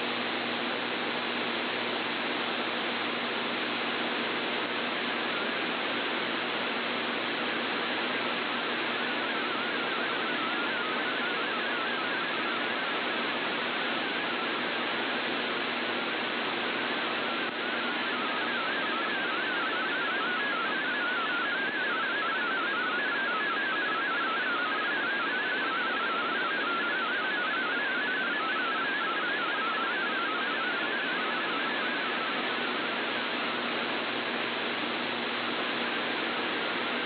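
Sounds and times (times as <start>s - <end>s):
radio hiss: 3.6s - 37.0s.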